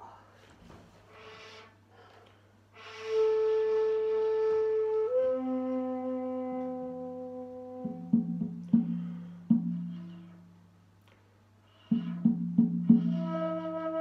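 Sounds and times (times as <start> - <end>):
breathy bamboo flute: 1.0 - 10.6, 11.7 - 14.0.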